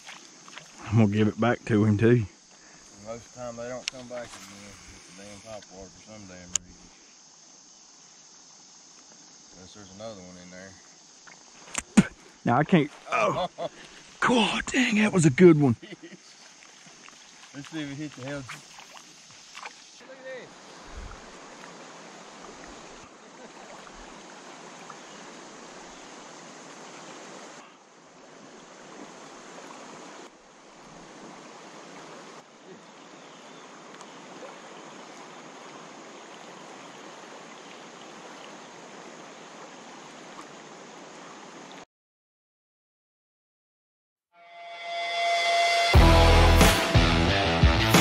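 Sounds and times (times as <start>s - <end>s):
river water rippling: 0.0s - 41.8s.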